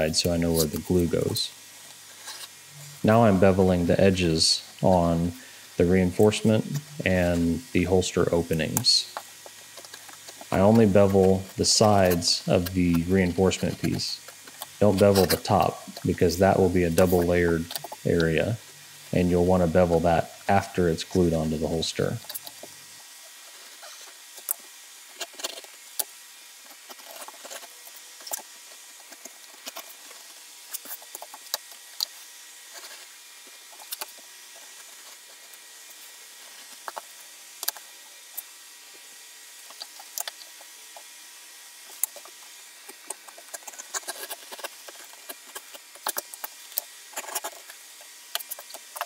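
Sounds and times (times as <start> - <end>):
edge beveler scraping leather: 0.1 - 1.4, 6.0 - 18.4, 19.1 - 38.5, 39.5 - 49.0.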